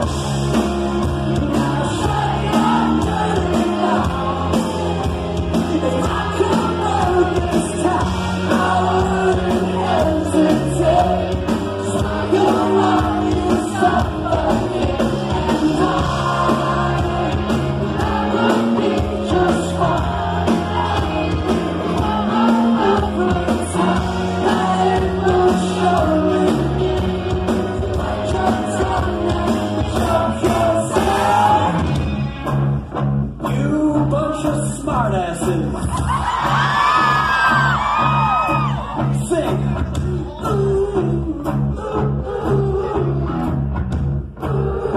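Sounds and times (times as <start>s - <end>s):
live rock band playing: 0.0s - 44.9s
lead singer vocals: 1.0s - 32.0s, 33.5s - 43.6s, 44.3s - 44.9s.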